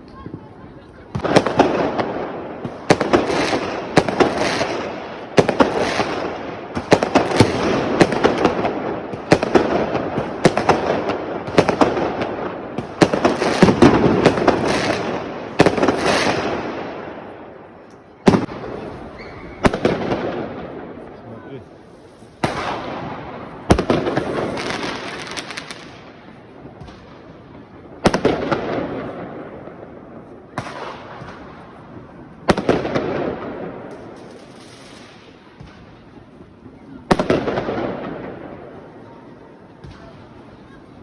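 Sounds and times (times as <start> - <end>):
fireworks bangs: 0.0 - 41.0
fireworks crackling and hissing: 0.0 - 41.0.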